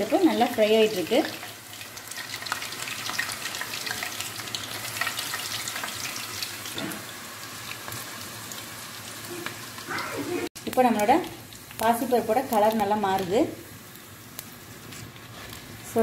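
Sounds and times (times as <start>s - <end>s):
lentils sizzling in hot oil: 0.0s - 16.0s.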